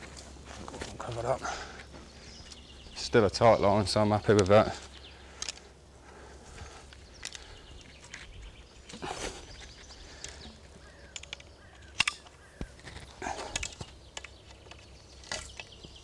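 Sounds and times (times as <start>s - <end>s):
bird calls: 0.0s - 16.0s.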